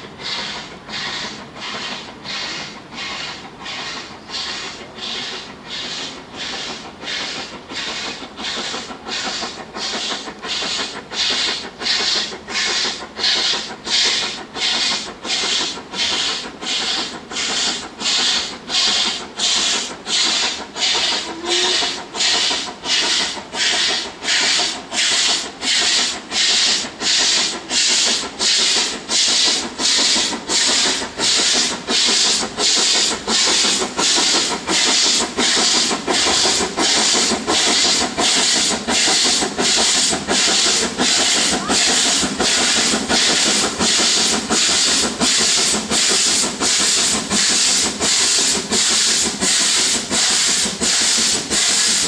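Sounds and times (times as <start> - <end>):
steam locomotive chuffing: 0.0 - 52.0.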